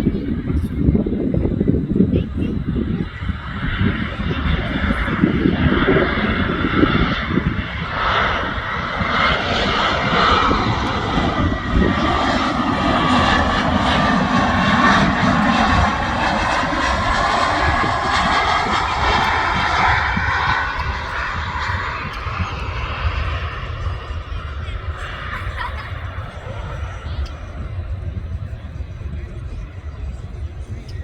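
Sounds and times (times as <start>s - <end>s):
jet engines rumbling and whining: 0.0s - 31.0s.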